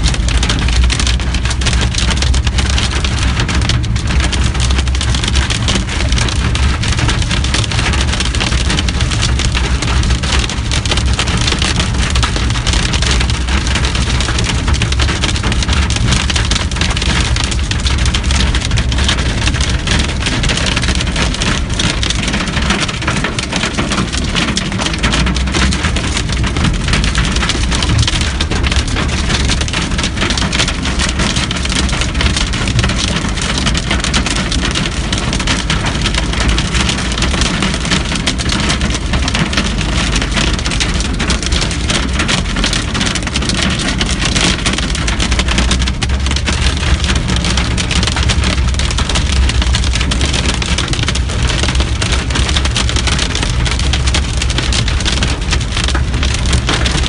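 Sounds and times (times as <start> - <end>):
rain and hail on car roof: 0.0 - 57.0.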